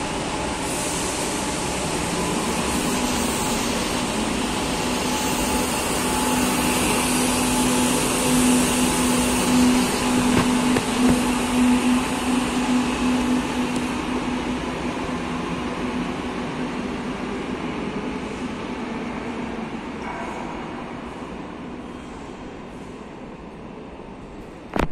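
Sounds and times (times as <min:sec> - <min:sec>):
train cars humming: 0:00.0 - 0:24.6
metro train wheels on rails: 0:00.0 - 0:24.9.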